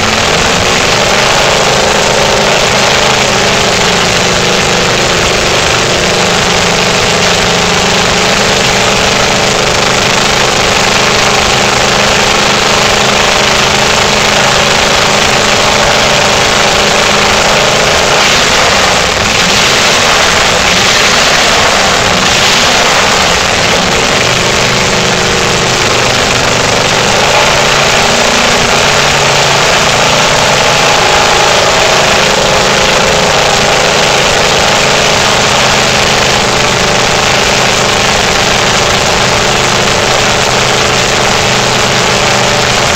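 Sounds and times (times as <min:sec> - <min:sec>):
engine idling through open exhaust: 0:00.0 - 0:42.9.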